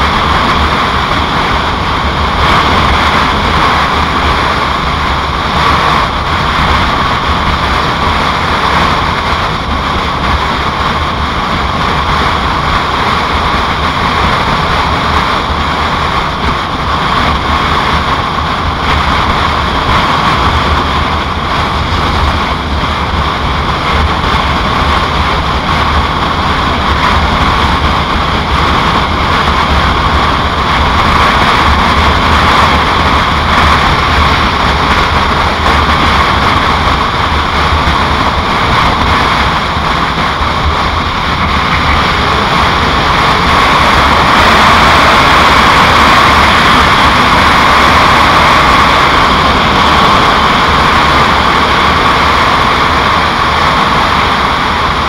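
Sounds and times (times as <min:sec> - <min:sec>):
motorcycle engine drone: 0:00.0 - 0:55.0
wind and road noise: 0:00.0 - 0:55.0.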